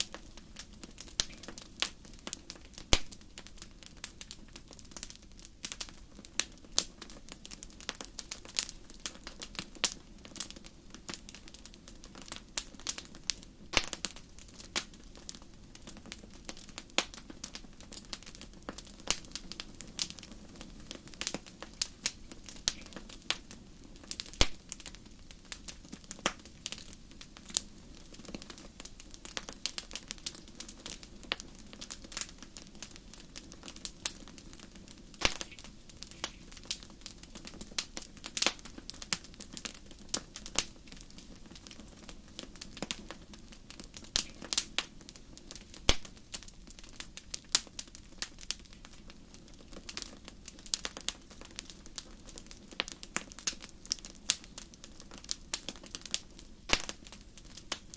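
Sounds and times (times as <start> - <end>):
fire crackling in a fireplace: 0.0 - 57.9.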